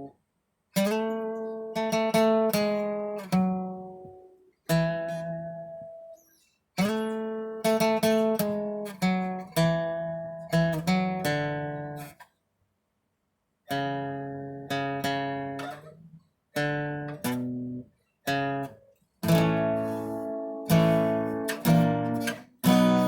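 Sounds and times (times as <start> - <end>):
acoustic guitar strumming: 0.8 - 6.2, 6.8 - 12.2, 13.7 - 23.0.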